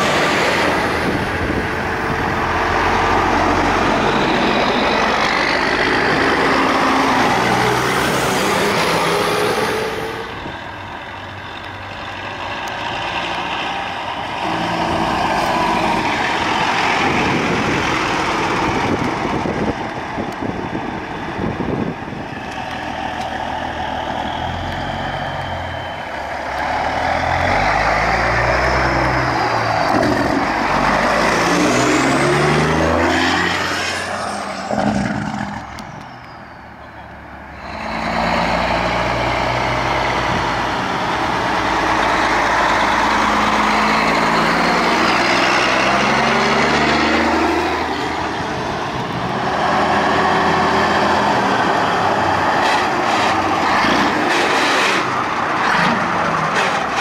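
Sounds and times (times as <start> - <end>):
diesel truck engines accelerating: 0.0 - 57.0.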